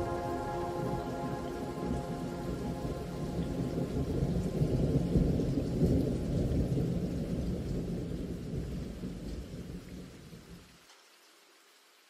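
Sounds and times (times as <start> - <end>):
low rumbling thunder: 0.0 - 10.5
rain: 0.0 - 12.0.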